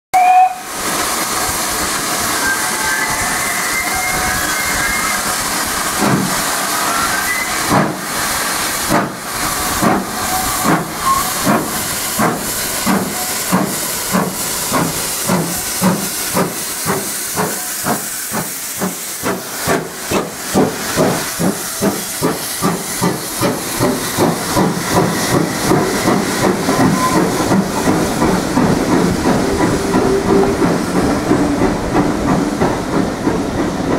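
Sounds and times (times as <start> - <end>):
steam hissing: 0.2 - 33.9
steam locomotive exhaust beats: 0.2 - 33.9.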